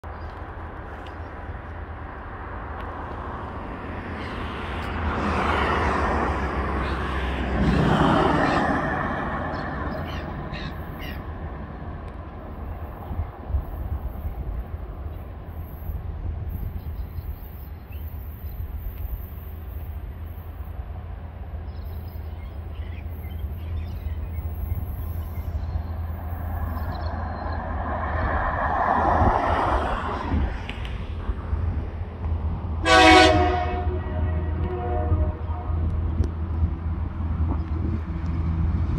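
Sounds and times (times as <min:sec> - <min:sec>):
diesel locomotive rumble: 0:00.0 - 0:38.9.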